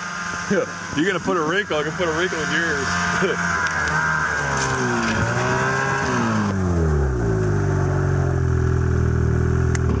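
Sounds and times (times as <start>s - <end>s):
snowmobile engine idling: 0.0s - 10.0s.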